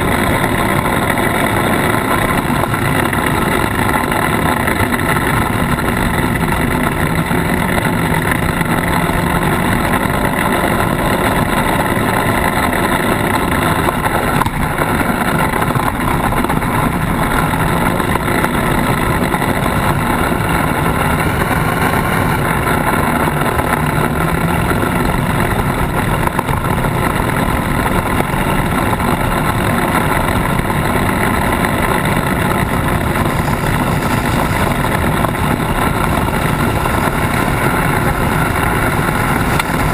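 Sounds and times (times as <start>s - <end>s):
tyres on dirt and gravel: 0.0s - 39.9s
vehicle engine running: 0.0s - 39.9s.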